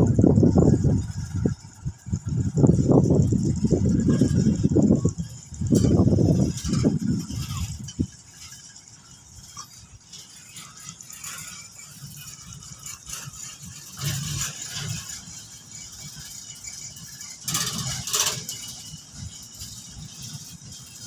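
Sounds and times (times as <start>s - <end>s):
freight wagons rattling on track: 0.0s - 21.0s.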